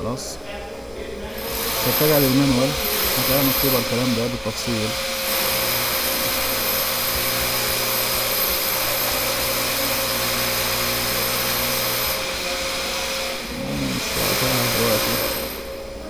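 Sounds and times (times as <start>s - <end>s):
low machine hum: 0.0s - 16.0s
machine motor whine: 1.2s - 16.0s.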